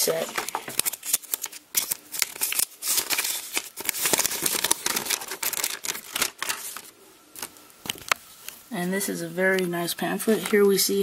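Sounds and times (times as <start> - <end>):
paper rustling and crackling: 0.0 - 8.7, 9.4 - 11.0.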